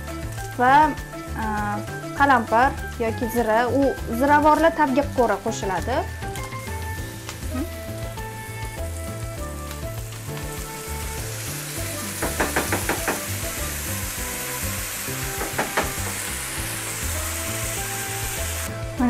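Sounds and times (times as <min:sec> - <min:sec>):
background music: 0:00.0 - 0:19.0
vegetables sizzling in a pan: 0:00.0 - 0:19.0.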